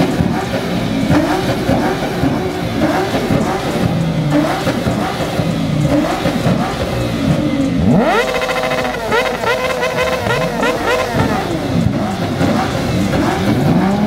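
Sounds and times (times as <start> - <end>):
car engine revving: 0.0 - 14.0
cars running: 0.0 - 14.0.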